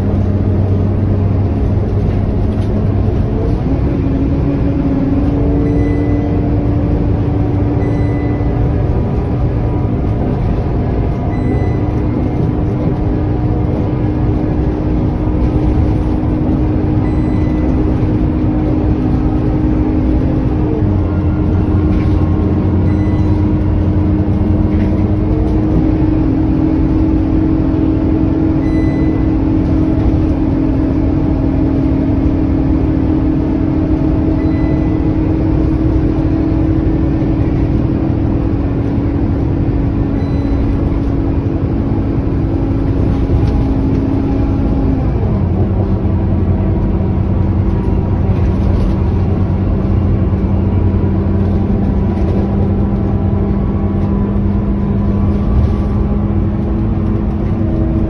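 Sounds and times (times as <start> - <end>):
bus engine running: 0.0 - 58.0
road noise: 0.0 - 58.0.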